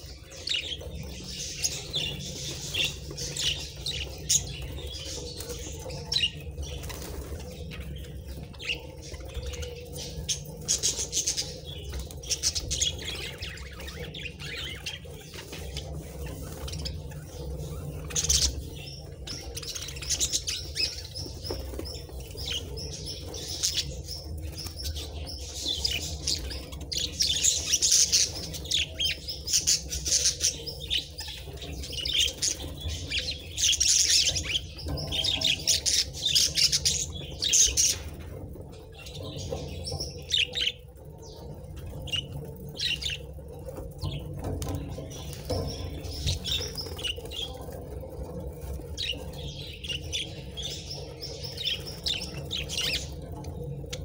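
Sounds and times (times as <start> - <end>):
budgerigars chattering and chirping: 0.0 - 54.0.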